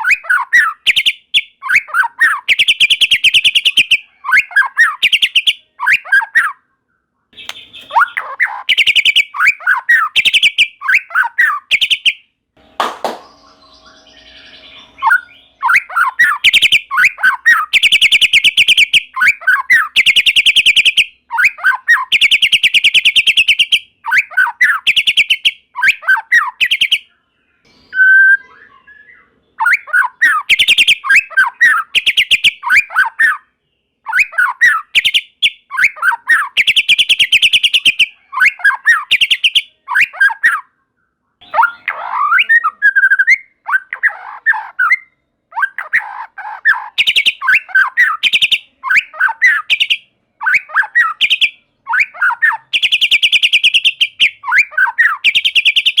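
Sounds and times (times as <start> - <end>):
bird singing trills and whistles: 0.0 - 6.6, 7.4 - 12.2, 13.0 - 56.0.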